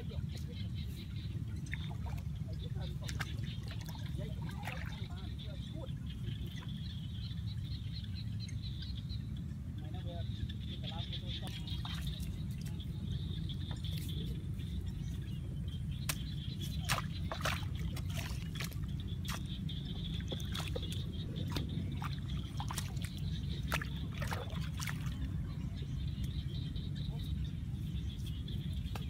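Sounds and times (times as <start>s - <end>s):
water sloshing and trickling: 0.0s - 29.0s.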